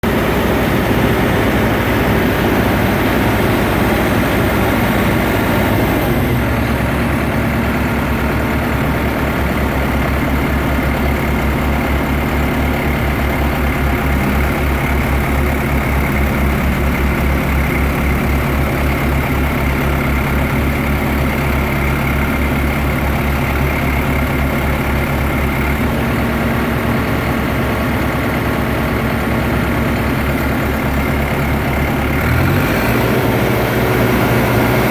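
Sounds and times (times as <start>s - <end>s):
engine running under load: 0.0s - 34.9s.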